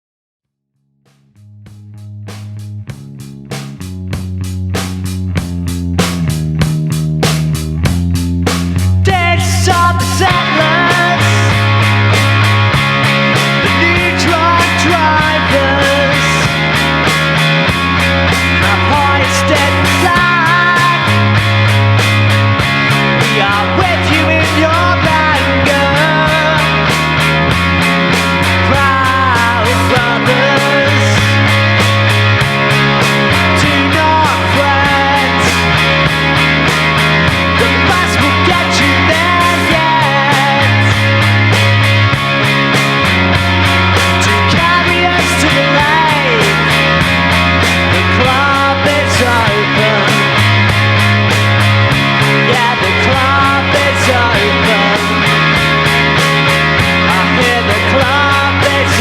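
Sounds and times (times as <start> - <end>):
rock band playing: 1.2 - 59.0
lead guitar bending pitch: 9.7 - 59.0.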